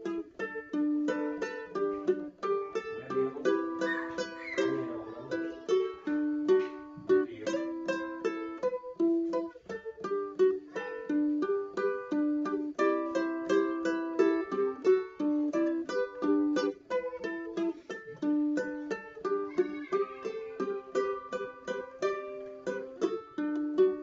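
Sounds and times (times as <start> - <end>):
ukulele melody: 0.0 - 24.0.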